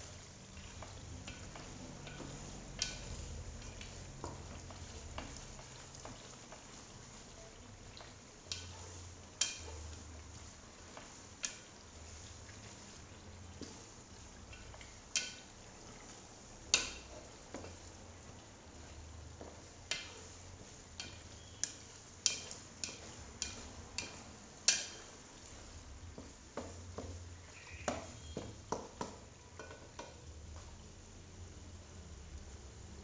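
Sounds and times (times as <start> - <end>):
low steady background noise: 0.0 - 33.0.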